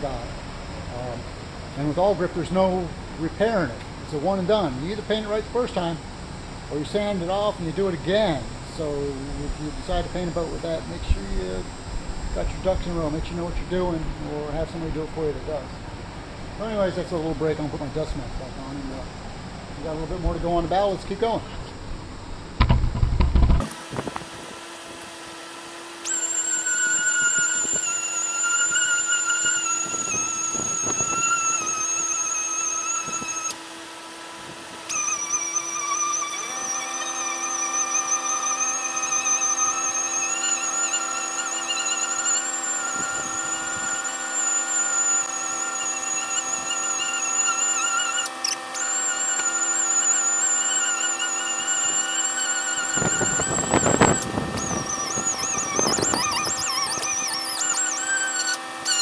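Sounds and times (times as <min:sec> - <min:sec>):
orbital sander whining: 0:00.0 - 0:59.0.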